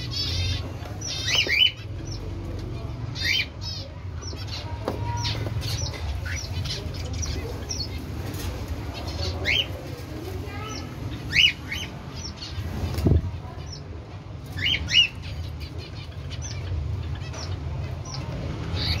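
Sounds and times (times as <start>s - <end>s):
cockatiels chirping: 0.0s - 13.8s, 14.4s - 19.0s.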